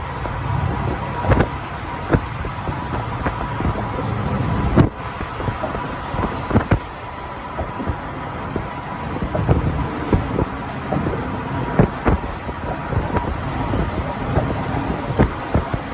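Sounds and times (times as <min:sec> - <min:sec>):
truck road and engine rumble: 0:00.0 - 0:15.9.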